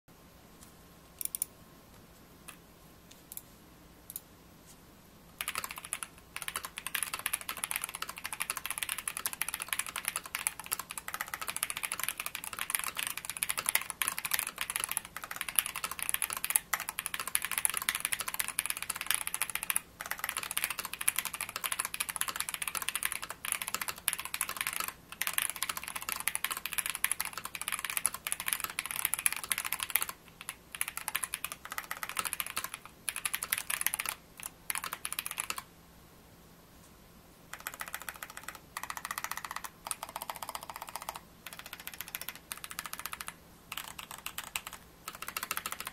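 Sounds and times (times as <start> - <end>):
typing on mechanical keyboard: 5.4 - 35.7, 37.5 - 45.9.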